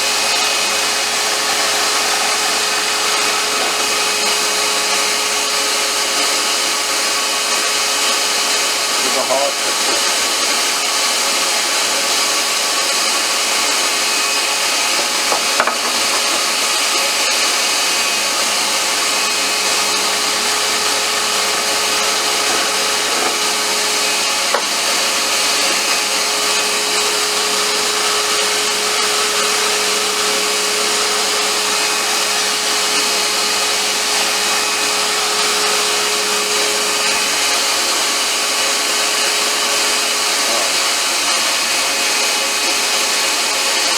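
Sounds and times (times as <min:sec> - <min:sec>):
tool scraping spinning wood: 0:00.0 - 0:10.9, 0:12.1 - 0:42.7
lathe motor hum: 0:00.0 - 0:43.9.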